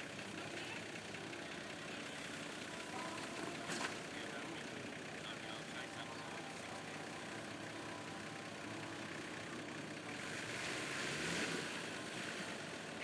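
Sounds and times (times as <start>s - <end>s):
distant vehicle engine running: 0.0s - 13.0s.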